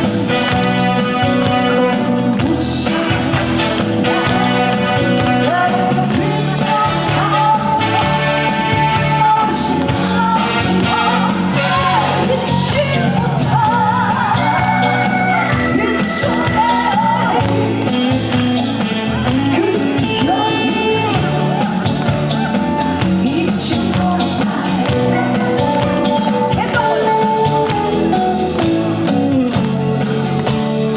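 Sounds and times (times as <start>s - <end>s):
amplified backing music: 0.0s - 30.9s
woman singing: 1.4s - 18.4s, 19.3s - 29.5s.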